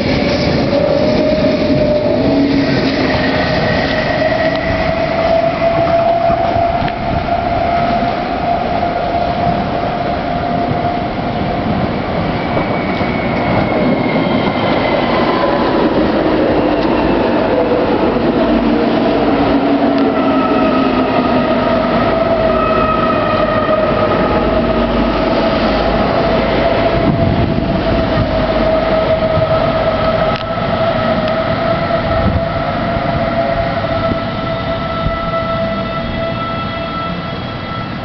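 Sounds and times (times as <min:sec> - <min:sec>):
train whine: 0:00.0 - 0:38.0
wheel and rail noise: 0:00.0 - 0:38.0.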